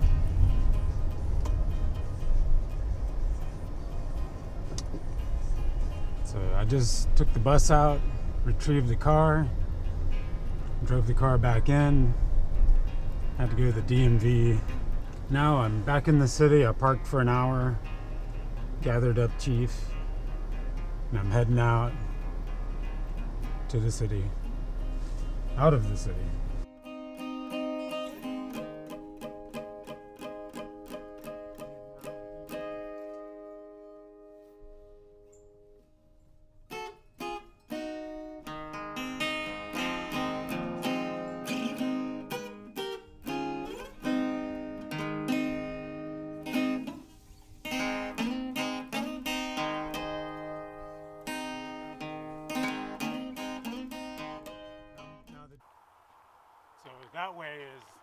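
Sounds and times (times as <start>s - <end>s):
acoustic guitar music: 0.0s - 55.6s.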